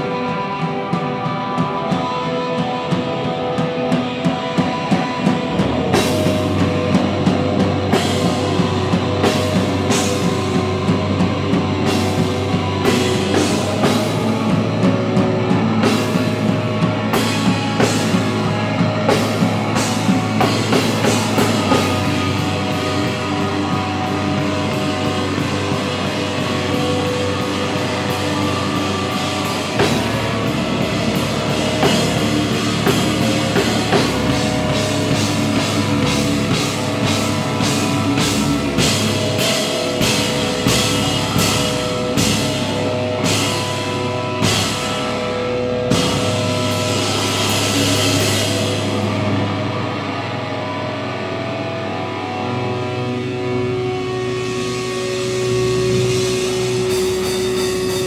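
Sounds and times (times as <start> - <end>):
drum kit with cymbals: 0.0 - 51.2, 52.0 - 58.0
electric guitar: 0.0 - 58.0.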